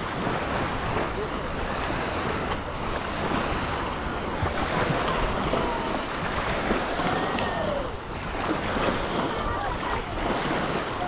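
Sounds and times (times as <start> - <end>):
waves washing onto shore: 0.0 - 11.0.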